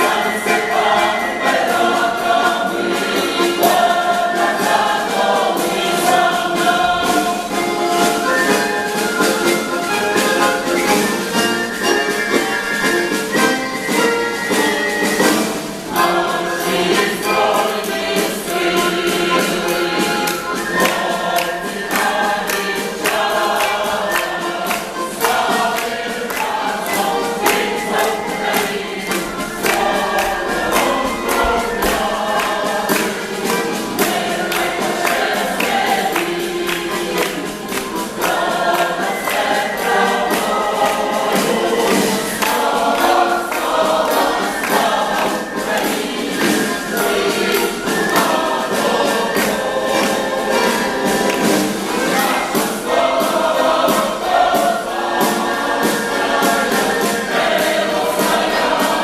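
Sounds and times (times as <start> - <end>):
accompaniment with steady beat: 0.0 - 59.0
choir singing: 0.0 - 59.0.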